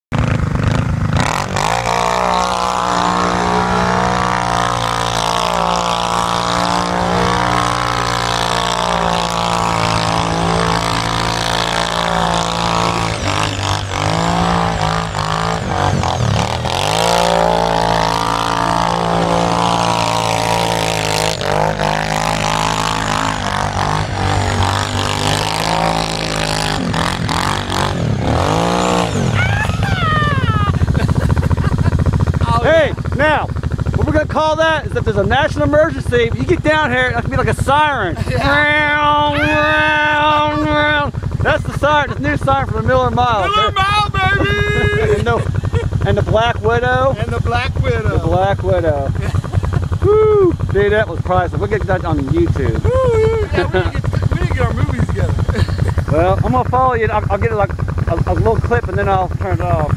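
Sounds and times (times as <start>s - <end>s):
quad engine revving: 0.1s - 59.9s.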